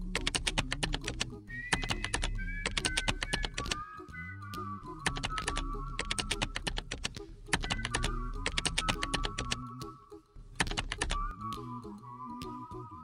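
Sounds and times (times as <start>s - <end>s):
keyboard typing: 0.0s - 12.7s
a cappella sung bass line: 0.0s - 13.0s
whistled tune: 0.9s - 13.0s.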